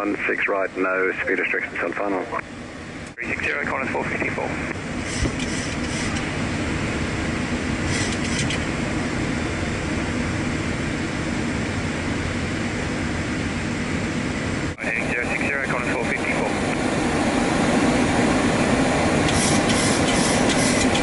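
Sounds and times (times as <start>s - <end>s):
air conditioning airflow: 0.0s - 21.0s.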